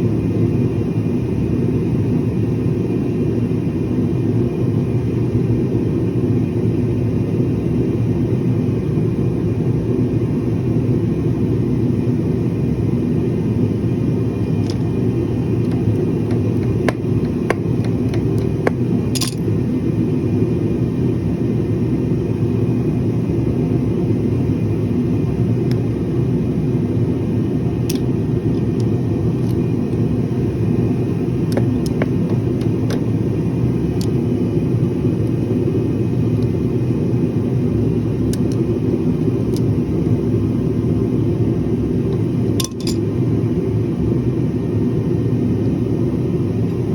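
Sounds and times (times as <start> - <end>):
low mechanical rumble: 0.0 - 46.9.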